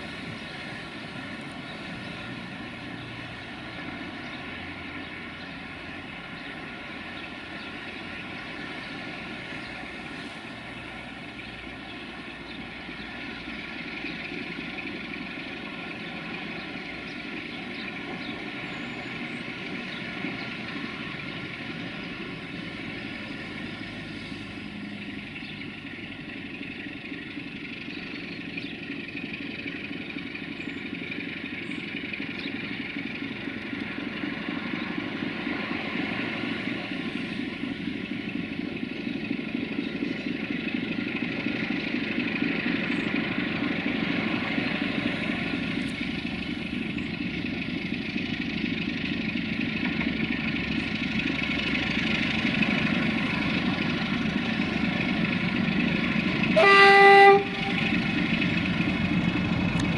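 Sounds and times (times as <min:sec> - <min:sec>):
diesel locomotives hauling train: 0:00.0 - 0:59.9.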